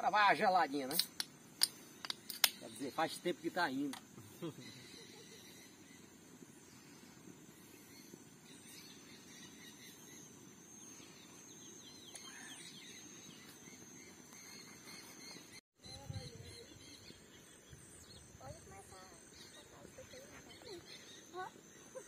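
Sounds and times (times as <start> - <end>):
bird chirps: 0.8 - 22.0.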